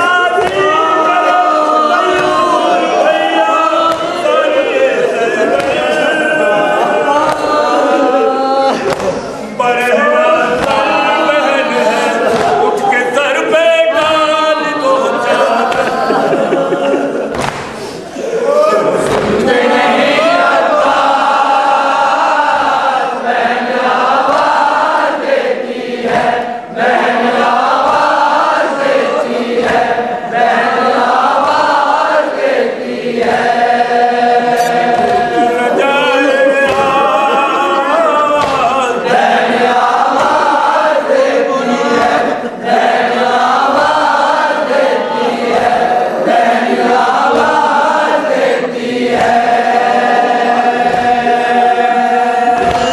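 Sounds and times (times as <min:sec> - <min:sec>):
lead reciter chanting: 0:00.0 - 0:52.9
men's voices chanting: 0:00.0 - 0:52.9.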